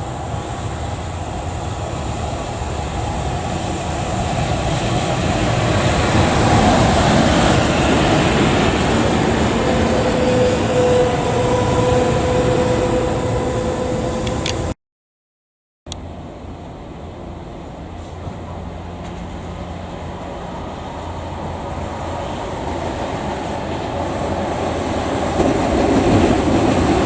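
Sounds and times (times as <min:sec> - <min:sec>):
train passing on tracks: 0:00.0 - 0:14.8, 0:15.9 - 0:27.0.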